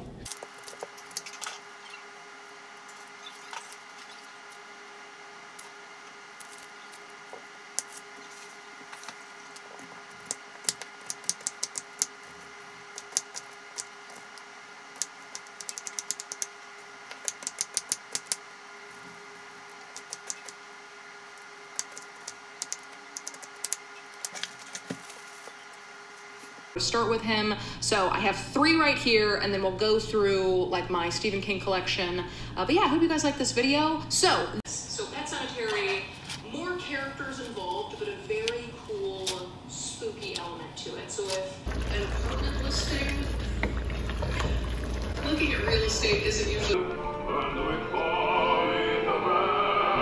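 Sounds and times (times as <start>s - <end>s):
faint steady hum: 0.0s - 48.6s.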